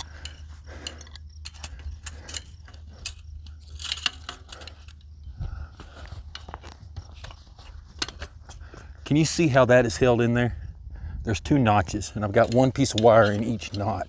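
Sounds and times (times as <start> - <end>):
barbed wire clicking and scraping: 0.0 - 10.1, 11.4 - 14.0
steady low rumble: 0.0 - 13.0.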